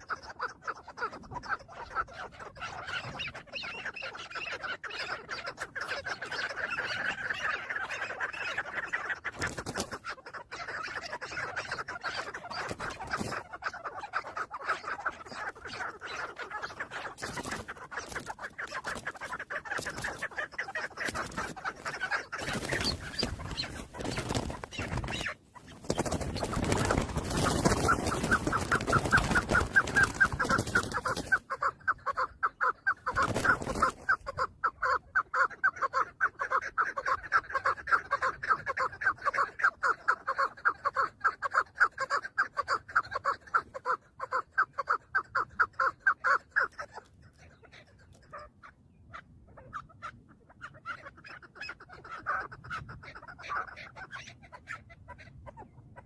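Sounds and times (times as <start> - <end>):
partridge clucking calls: 0.0 - 56.0.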